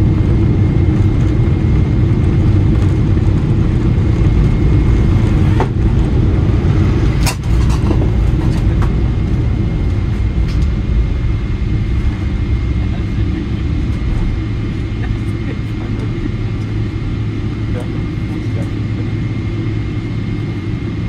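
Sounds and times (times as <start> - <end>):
aircraft engine rumble: 0.0 - 21.0.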